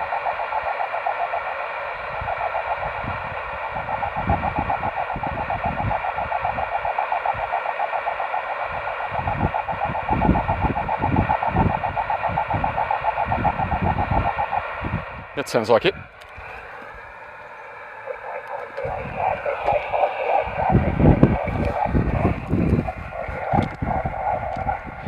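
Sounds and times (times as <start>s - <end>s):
buzzy fluttering radio tone: 0.0s - 25.0s.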